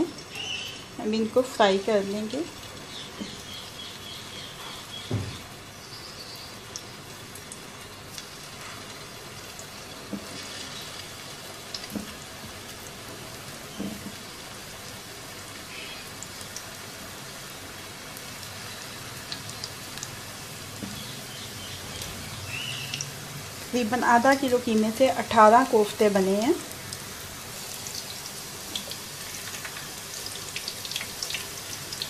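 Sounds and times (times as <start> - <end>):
hot oil sizzling: 0.0 - 32.0.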